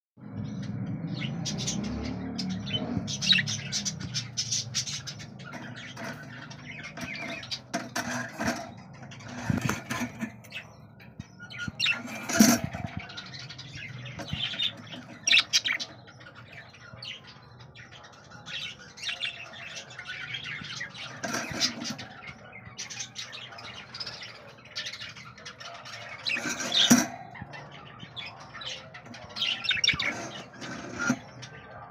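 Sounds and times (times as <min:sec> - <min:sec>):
budgerigars chirping: 0:01.1 - 0:31.9.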